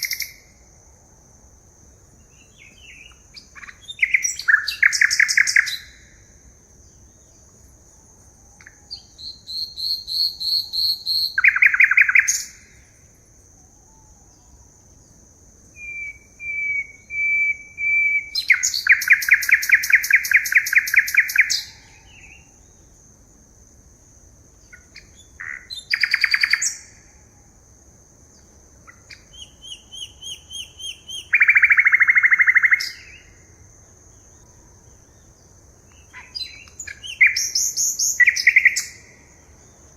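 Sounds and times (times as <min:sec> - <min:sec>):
birds singing trills: 0:00.0 - 0:00.4, 0:02.2 - 0:06.2, 0:08.5 - 0:13.0, 0:13.6 - 0:23.1, 0:24.6 - 0:27.1, 0:28.3 - 0:39.9.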